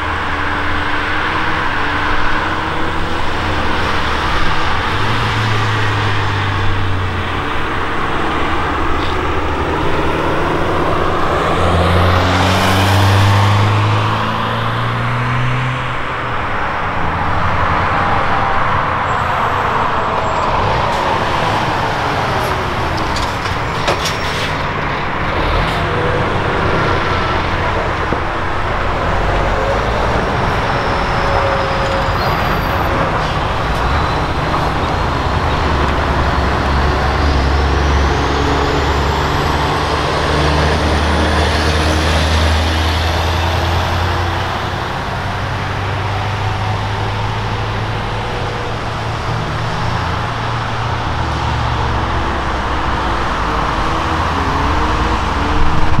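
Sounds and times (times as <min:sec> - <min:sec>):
diesel truck engine under load: 0:00.0 - 0:56.0
road noise: 0:00.0 - 0:56.0.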